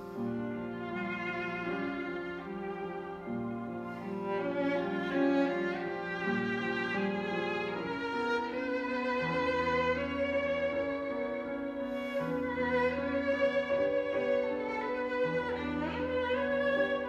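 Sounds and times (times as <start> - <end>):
low sustained piano chords: 0.0 - 17.0
violin runs and held notes: 0.0 - 17.0.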